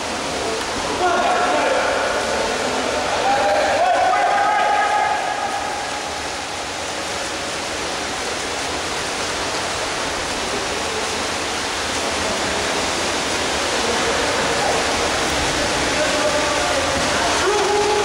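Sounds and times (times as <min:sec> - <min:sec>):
swimmers splashing water: 0:00.0 - 0:18.0.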